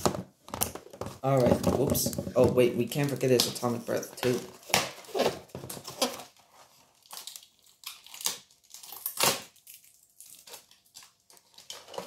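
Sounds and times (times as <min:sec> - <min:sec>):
cardboard and plastic rustling: 0:00.0 - 0:08.8, 0:10.2 - 0:12.0.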